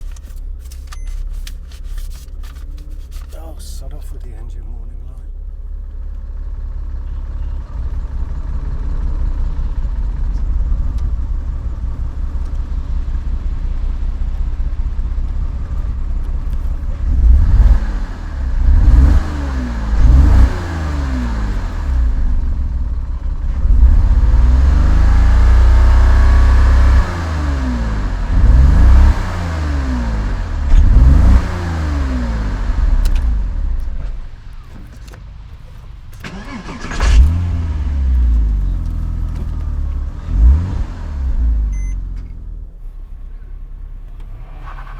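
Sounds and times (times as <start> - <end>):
misfiring car engine revving: 3.0 - 34.8, 36.2 - 42.8.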